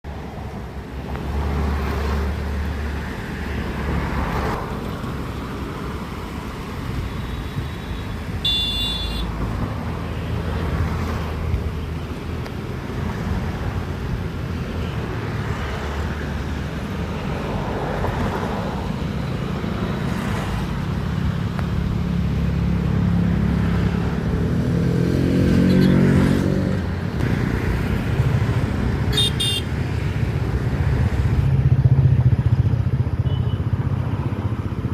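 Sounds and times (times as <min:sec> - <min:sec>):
vehicle engines running: 0:00.1 - 0:34.9.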